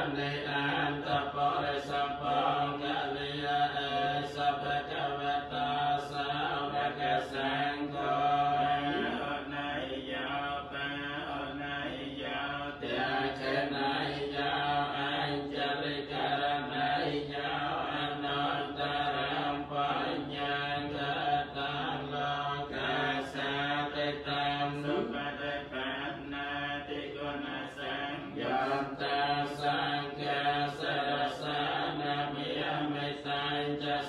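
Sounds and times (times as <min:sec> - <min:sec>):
monks chanting: 0:00.0 - 0:34.0.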